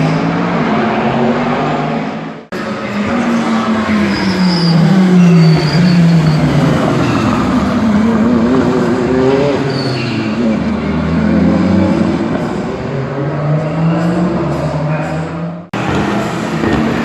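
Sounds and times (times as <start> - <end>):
race car engine revving: 0.0 - 17.0
high-pitched squeals: 2.6 - 17.0.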